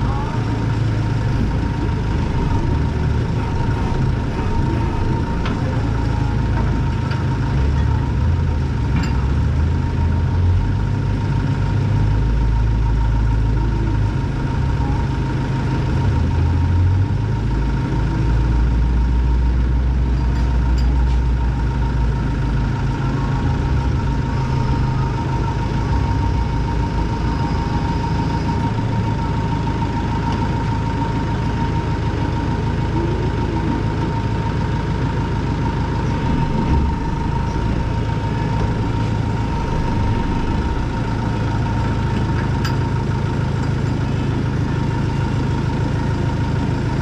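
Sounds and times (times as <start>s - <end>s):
steady whine: 0.0s - 47.0s
tractor diesel engine idling: 0.0s - 47.0s.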